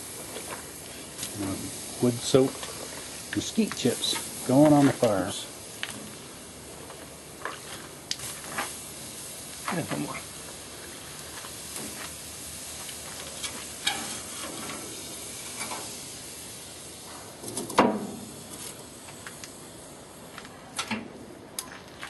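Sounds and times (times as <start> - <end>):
wood chips sizzling on charcoal: 0.0 - 22.0.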